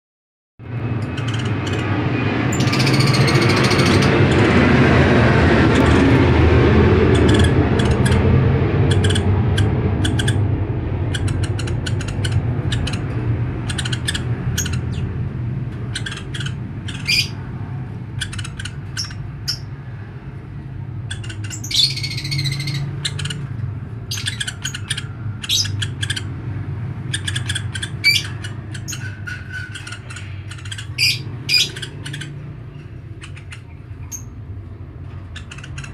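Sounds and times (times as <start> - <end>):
steady low rumble: 0.6 - 35.9
woodpecker calling: 1.0 - 4.7, 7.0 - 15.2, 15.8 - 17.4, 18.1 - 19.7, 21.0 - 34.4, 35.3 - 35.9.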